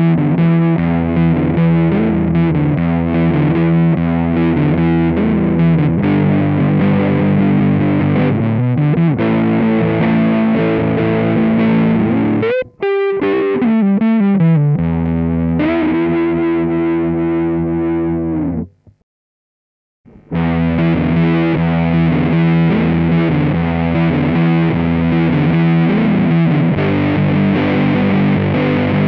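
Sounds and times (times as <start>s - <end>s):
fuzz electric guitar: 0.0s - 18.9s, 20.1s - 29.0s.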